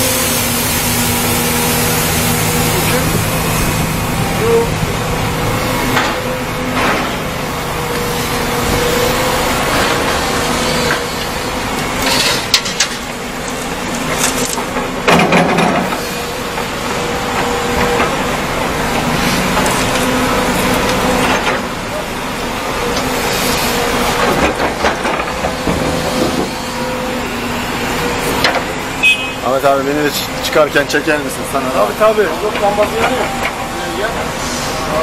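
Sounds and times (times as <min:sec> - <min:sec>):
diesel engines running: 0:00.0 - 0:35.0.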